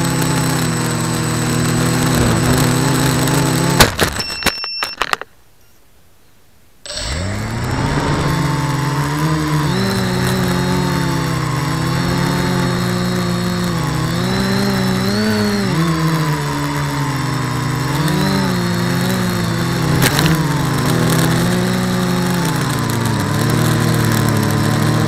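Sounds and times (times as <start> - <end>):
quadcopter motors whining: 0.0 - 4.3, 6.9 - 25.0.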